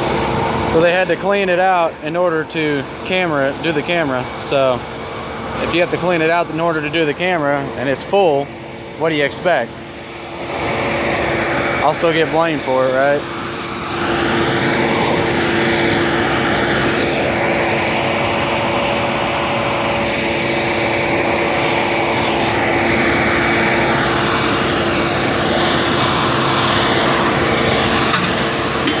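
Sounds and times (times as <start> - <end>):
engine humming: 0.0 - 29.0
vacuum truck blower rushing: 0.0 - 29.0.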